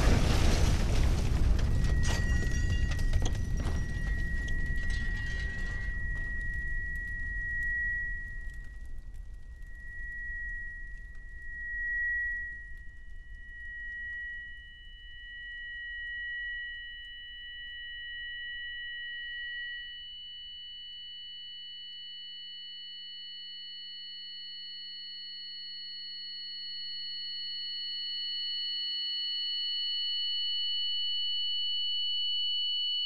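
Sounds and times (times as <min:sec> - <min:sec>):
high-pitched ringing tone: 0:01.7 - 0:33.0.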